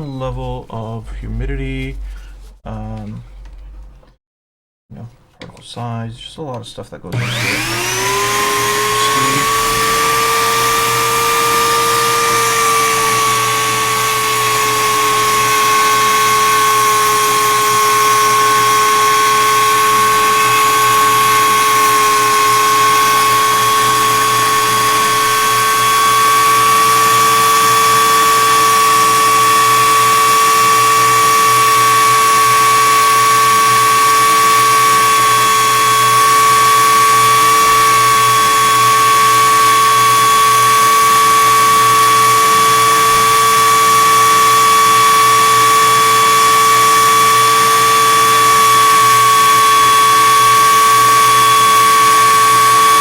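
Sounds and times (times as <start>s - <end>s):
rotary tool whining: 7.1s - 53.0s.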